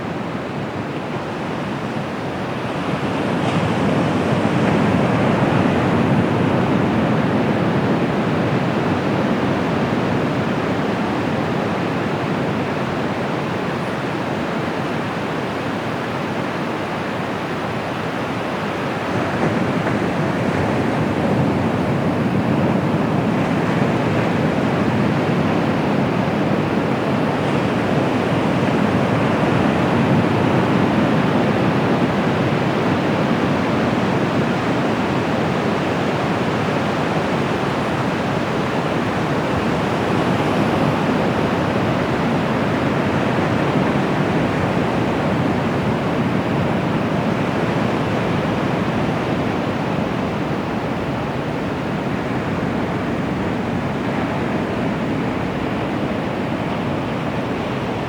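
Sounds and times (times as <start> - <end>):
ocean waves breaking on beach: 0.8 - 58.0.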